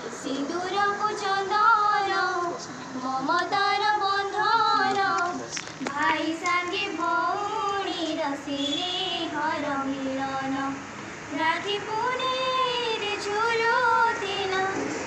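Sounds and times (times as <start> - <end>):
high voice singing slow melody: 0.0 - 15.0.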